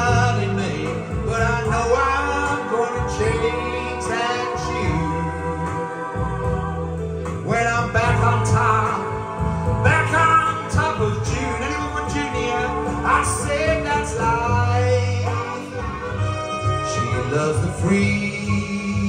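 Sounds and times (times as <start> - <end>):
man singing into microphone: 0.0 - 6.1, 7.2 - 19.0
recorded backing track: 0.0 - 19.0.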